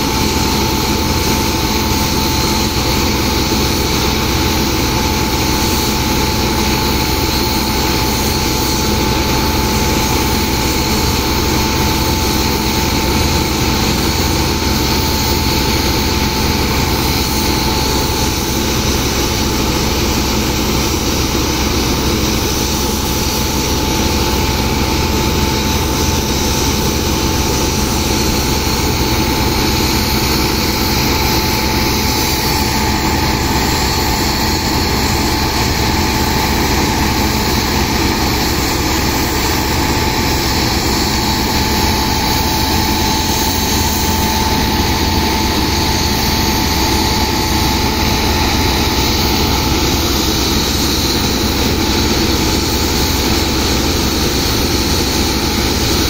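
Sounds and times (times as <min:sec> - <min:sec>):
pump engine droning: 0:00.0 - 0:56.0
water jets rushing from hoses: 0:00.0 - 0:56.0.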